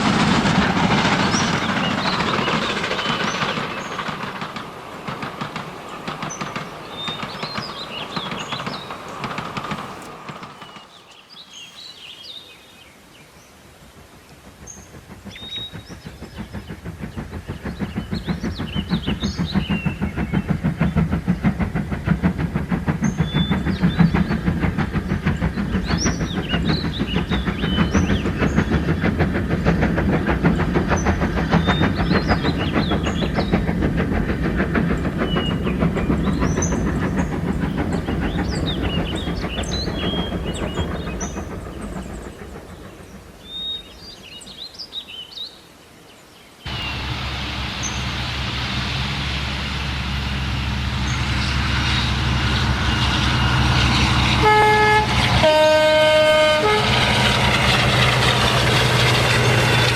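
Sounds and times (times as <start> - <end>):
train rumbling: 0.0 - 45.5, 46.6 - 59.9.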